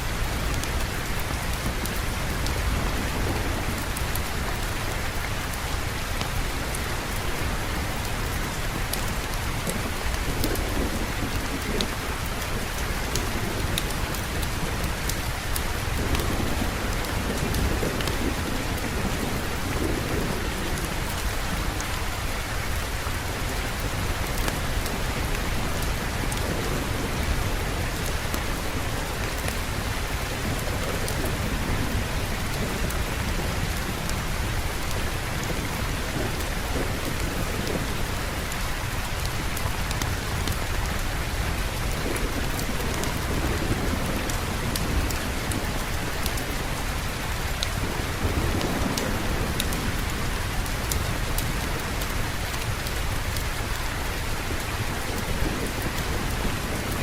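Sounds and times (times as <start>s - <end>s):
steady rain falling: 0.0s - 57.0s
gentle thunder rolls: 0.2s - 57.0s.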